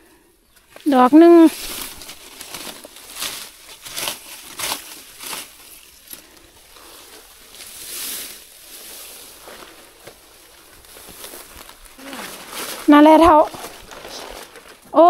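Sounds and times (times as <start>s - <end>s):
rustling grass and undergrowth: 0.0s - 15.0s.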